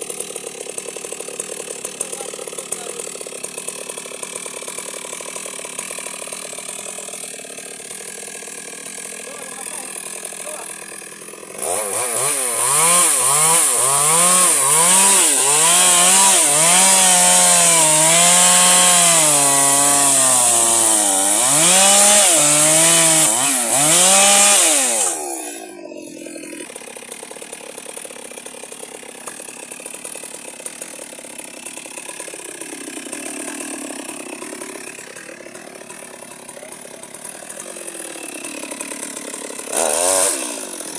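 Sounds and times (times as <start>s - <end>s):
electric chainsaw cutting wood: 0.0s - 40.9s.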